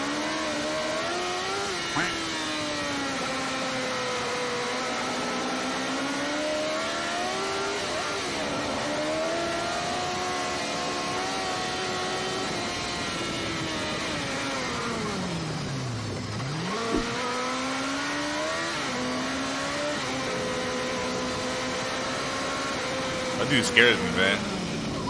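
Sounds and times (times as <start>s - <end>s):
motorbike engine revving: 0.0s - 25.0s.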